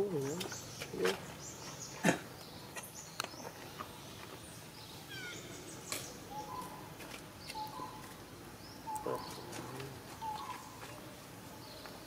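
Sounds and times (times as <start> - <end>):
steady outdoor hiss: 0.0 - 12.0
birds chirping and whistling: 0.2 - 11.0.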